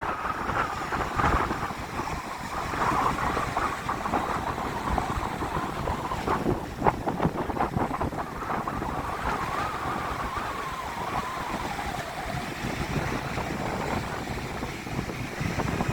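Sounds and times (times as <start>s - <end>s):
ocean surf: 0.0s - 15.9s
wind gusting across microphone: 0.0s - 15.9s.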